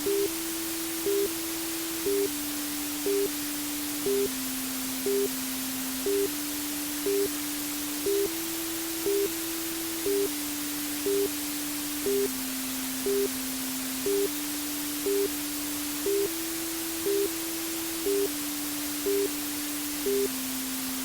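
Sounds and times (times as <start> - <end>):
white noise hiss: 0.0 - 21.0.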